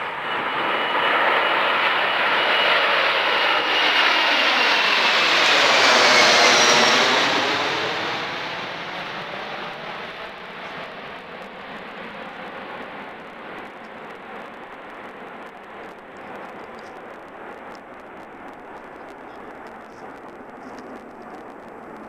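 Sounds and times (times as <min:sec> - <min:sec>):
high jet engine whine: 0:00.0 - 0:22.0
jet airliner roar overhead: 0:00.0 - 0:22.0.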